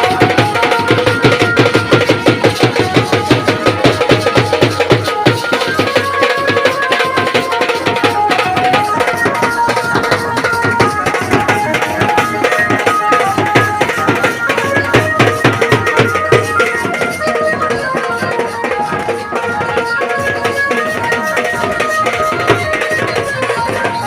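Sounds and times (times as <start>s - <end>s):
fast hand-drum beats: 0.0s - 24.0s.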